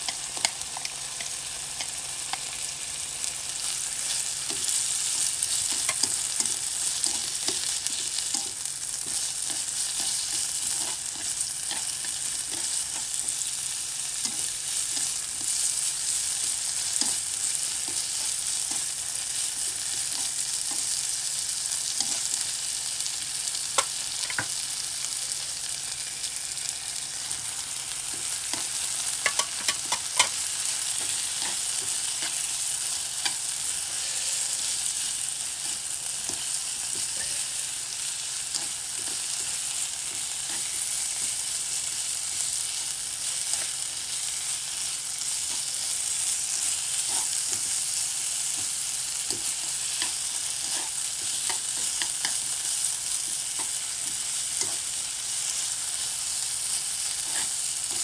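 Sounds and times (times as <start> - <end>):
onions and tofu sizzling in oil: 0.0 - 58.0.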